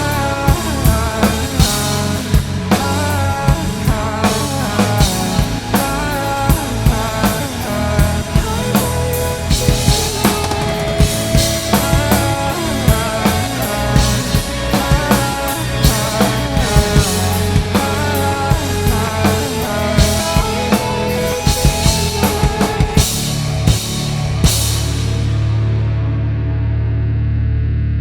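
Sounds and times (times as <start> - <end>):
drum kit playing: 0.0 - 25.8
recorded rock song: 0.0 - 28.0.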